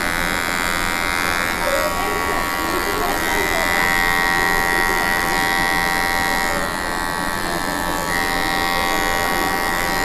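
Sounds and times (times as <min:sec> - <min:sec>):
electric hair trimmer buzzing: 0:00.0 - 0:10.0.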